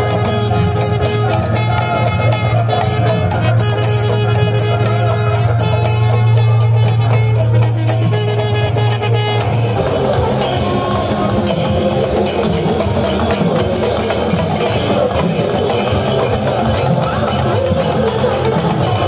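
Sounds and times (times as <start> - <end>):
drums in fast rhythm: 0.0 - 19.0
low horn blast: 0.0 - 19.0.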